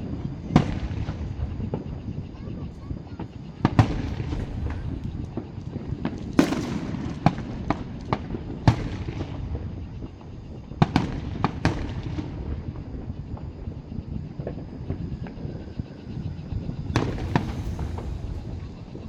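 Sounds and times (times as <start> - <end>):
distant fireworks bangs: 0.0 - 19.0.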